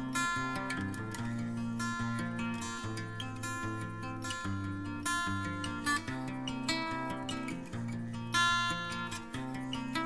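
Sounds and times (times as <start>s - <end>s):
acoustic guitar tune: 0.0s - 10.0s.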